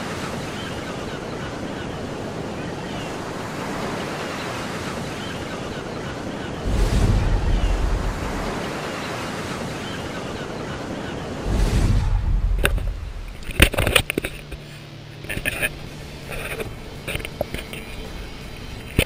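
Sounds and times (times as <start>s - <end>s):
ocean surf: 0.0s - 19.0s
waves breaking: 0.0s - 19.0s.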